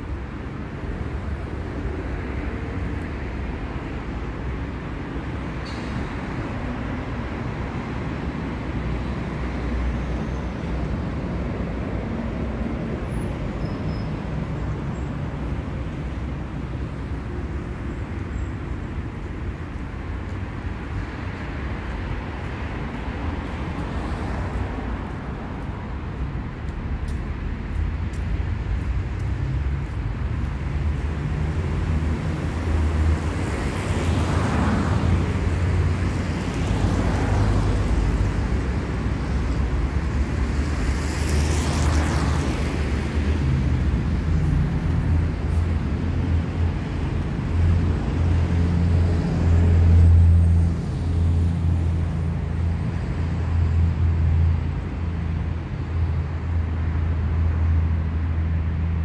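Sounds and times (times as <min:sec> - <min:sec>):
cars passing close by: 0:00.0 - 0:59.0
traffic engines rumbling: 0:00.0 - 0:59.0.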